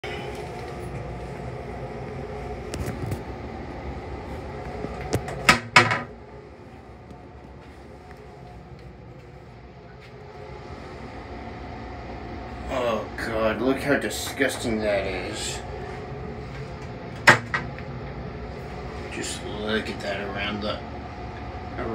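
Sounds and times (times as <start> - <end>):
railcar low rumble: 0.0 - 21.9.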